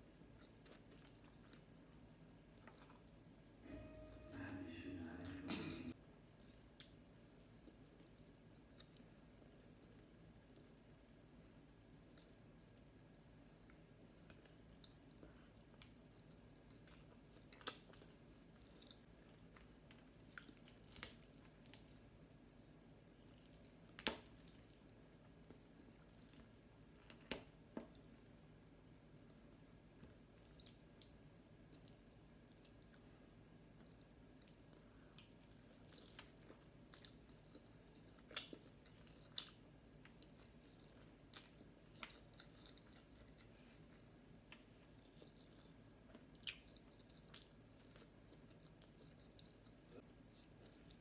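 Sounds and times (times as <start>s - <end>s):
person chewing food: 0.0s - 3.2s, 6.4s - 51.0s
faint room hiss: 0.0s - 51.0s.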